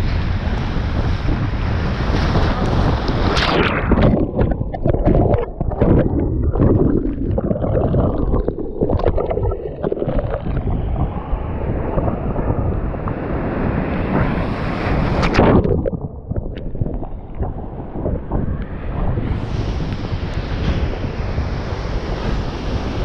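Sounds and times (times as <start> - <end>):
wind buffeting microphone: 0.0 - 23.0
water splashing around kayak: 0.4 - 23.0.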